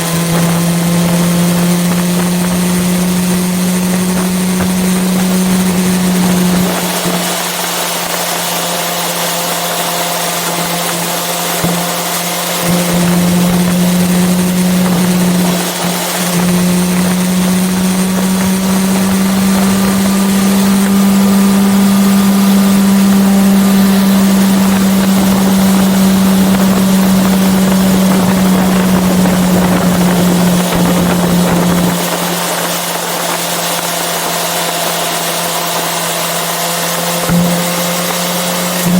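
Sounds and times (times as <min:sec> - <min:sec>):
wind rushing over microphone: 0:00.0 - 0:09.3, 0:10.5 - 0:38.9
motorcycle engine at high revs: 0:00.0 - 0:38.9.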